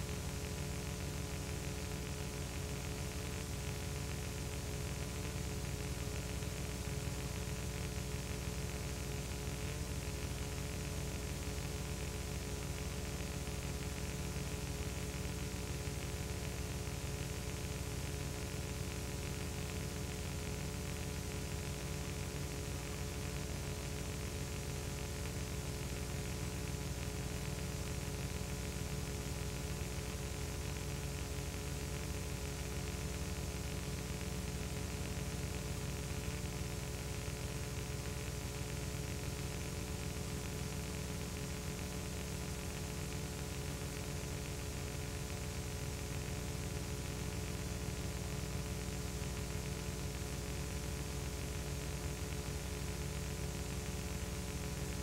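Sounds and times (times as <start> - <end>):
hiss and static: 0.0 - 55.0.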